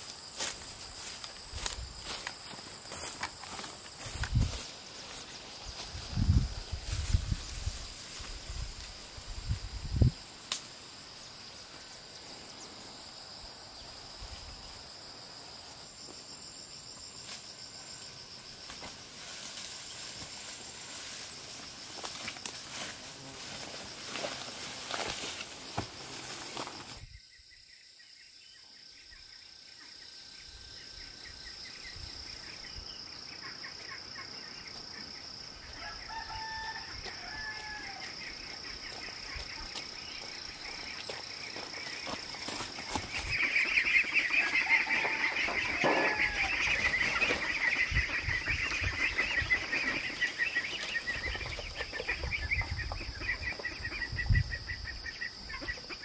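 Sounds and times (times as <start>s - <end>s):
fast-pulsing insect chorus: 0.0s - 56.0s
high insect trill: 0.0s - 56.0s.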